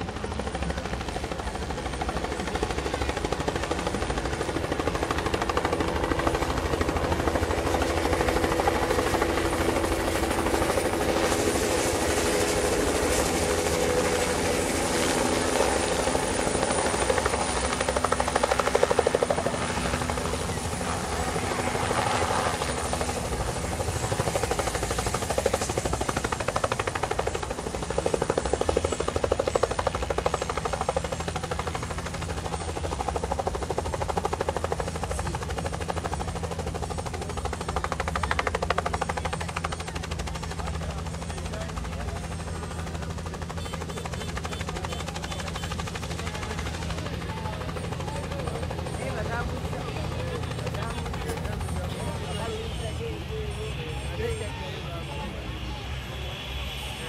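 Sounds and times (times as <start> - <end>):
helicopter engine whine: 0.0 - 57.0
helicopter rotor chopping: 0.0 - 57.0.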